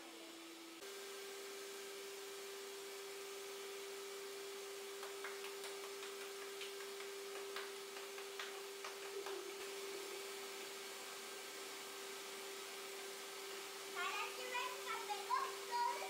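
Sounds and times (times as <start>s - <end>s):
electric mixer humming: 0.0s - 16.0s.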